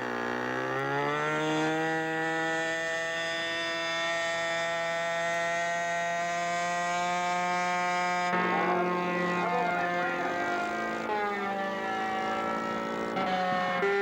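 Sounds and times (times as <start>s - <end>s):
model airplane engine buzzing: 0.0s - 14.0s.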